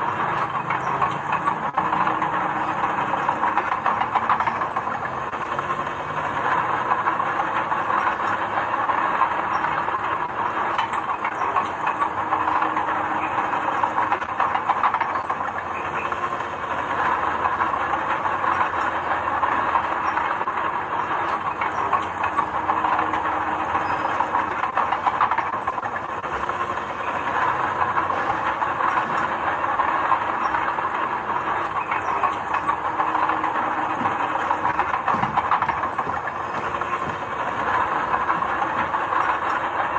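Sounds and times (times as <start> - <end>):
heavy machinery rattling: 0.0 - 39.9.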